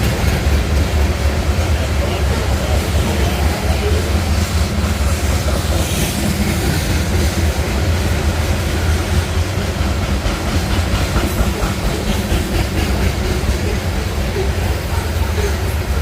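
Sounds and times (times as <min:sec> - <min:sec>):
train rumbling past: 0:00.0 - 0:16.0
wheels clattering on rails: 0:00.0 - 0:16.0.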